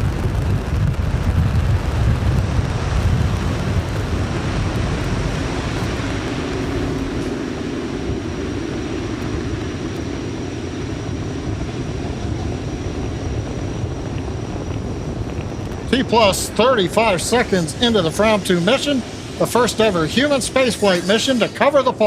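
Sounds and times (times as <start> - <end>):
rocket engines rumbling: 0.0 - 22.0.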